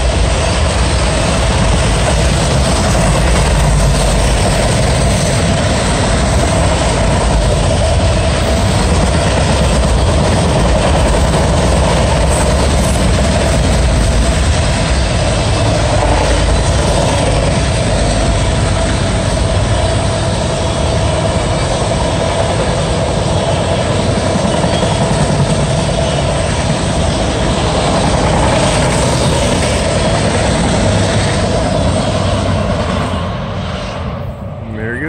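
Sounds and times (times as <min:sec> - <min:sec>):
train wheels rushing on rail: 0:00.0 - 0:35.0.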